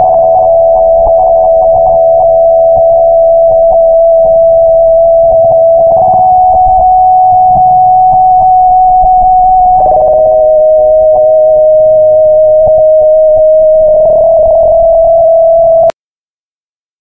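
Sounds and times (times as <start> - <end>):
held synthesizer note: 0.0 - 15.9.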